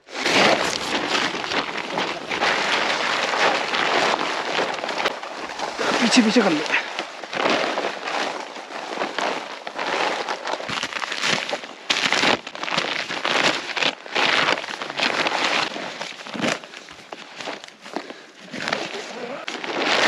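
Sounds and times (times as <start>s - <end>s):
plastic tarp and bag rustling: 0.0s - 20.0s.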